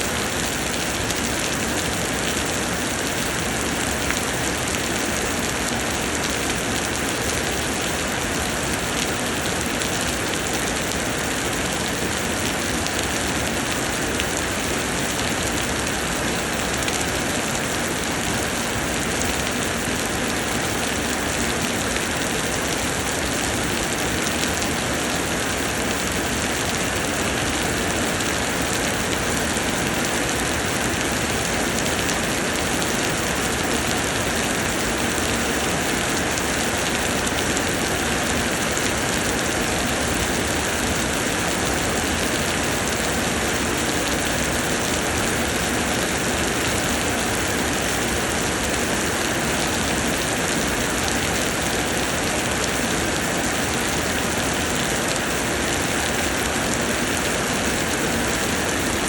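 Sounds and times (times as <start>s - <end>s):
rain pouring: 0.0s - 59.0s.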